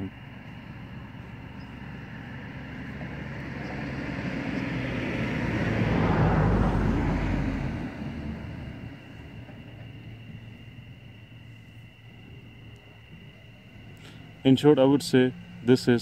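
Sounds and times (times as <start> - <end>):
passing vehicle: 0.0 - 16.0.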